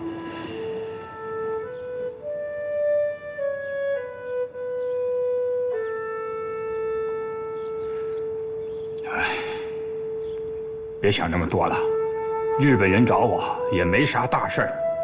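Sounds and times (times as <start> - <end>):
woodwind sustained notes: 0.0 - 15.0.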